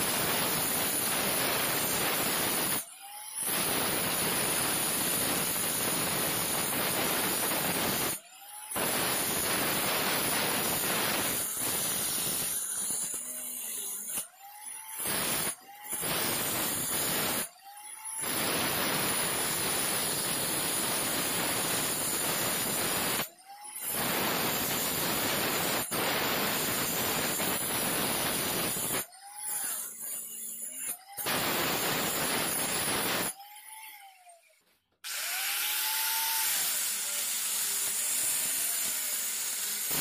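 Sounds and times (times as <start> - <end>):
angle grinder cutting brick: 0.0 - 34.0, 35.0 - 40.0
grinder motor whine: 0.0 - 40.0.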